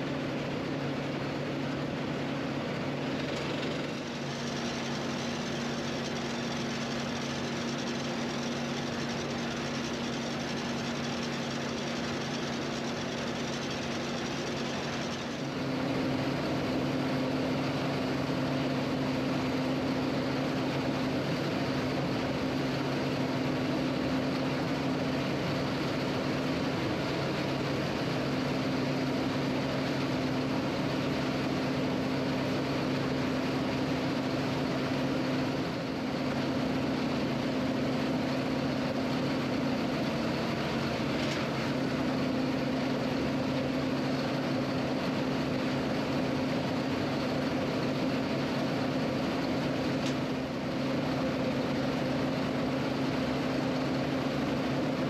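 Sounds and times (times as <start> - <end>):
harvester and tractor engine drone: 0.0 - 55.0.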